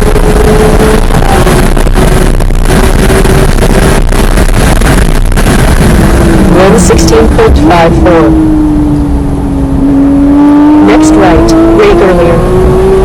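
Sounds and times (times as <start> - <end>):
car engine at high revs: 0.0 - 13.0
wind and road noise: 0.0 - 13.0.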